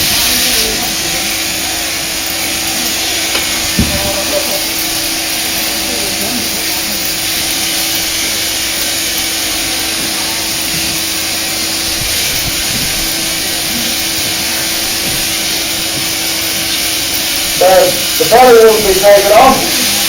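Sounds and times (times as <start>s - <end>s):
shearing handpiece whirring: 0.0s - 20.0s.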